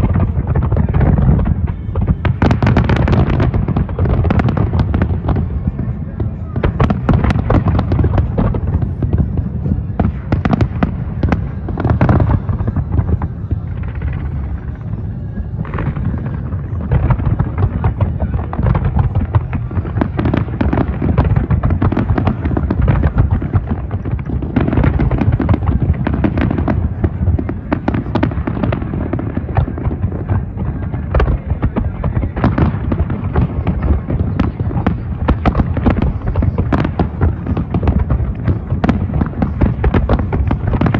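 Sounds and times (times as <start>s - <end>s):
fireworks bursting: 0.0s - 40.9s.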